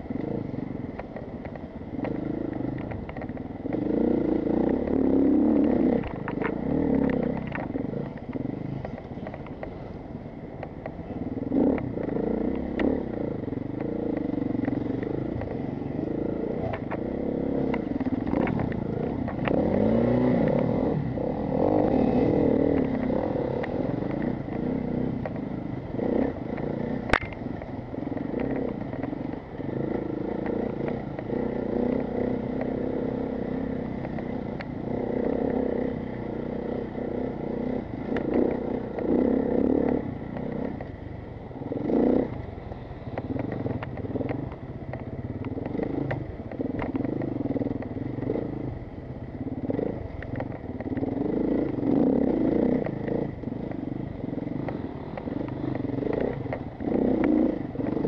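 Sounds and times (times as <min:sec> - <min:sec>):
motorcycle engine revving: 0:00.0 - 0:10.0, 0:10.8 - 0:58.0
motorcycle clattering over bumps: 0:00.2 - 0:09.8, 0:10.5 - 0:58.0.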